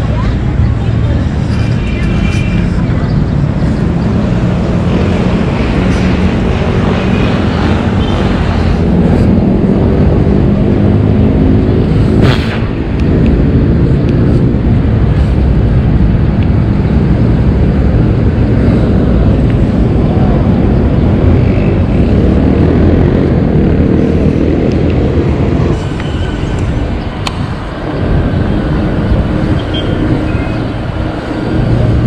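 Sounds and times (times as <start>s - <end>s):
traffic noise: 0.0s - 32.0s
vehicle engine hum: 0.0s - 32.0s
wind rush: 0.0s - 32.0s.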